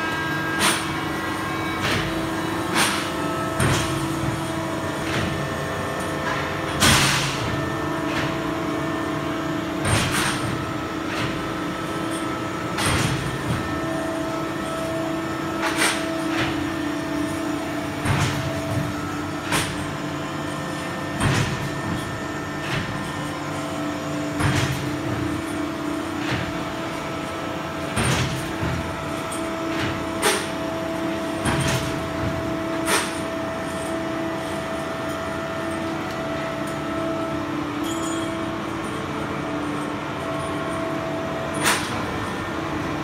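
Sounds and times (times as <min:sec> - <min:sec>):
air compressor humming: 0:00.0 - 0:43.0.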